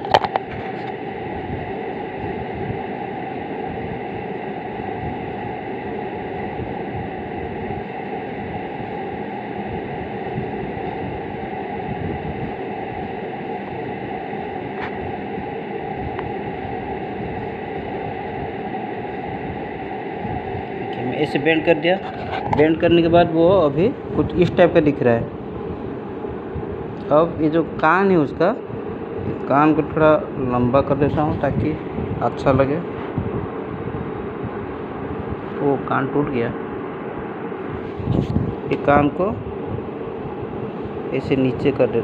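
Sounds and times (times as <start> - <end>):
background hiss and hum: 0.0 - 42.0.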